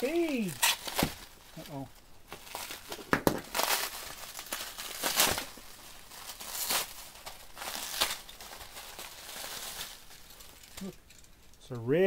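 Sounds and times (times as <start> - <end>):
bubble wrap crinkling: 0.0 - 11.6.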